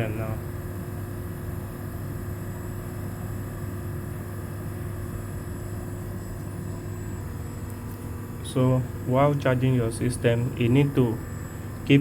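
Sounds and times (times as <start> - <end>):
air conditioner mechanical hum: 0.0 - 12.0.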